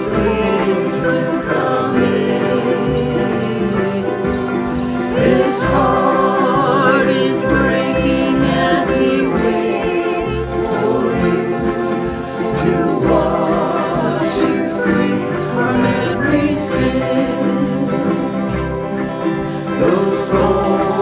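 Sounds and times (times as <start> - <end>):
group singing in harmony: 0.0 - 21.0
strummed acoustic guitars: 0.0 - 21.0
ukulele: 0.0 - 21.0.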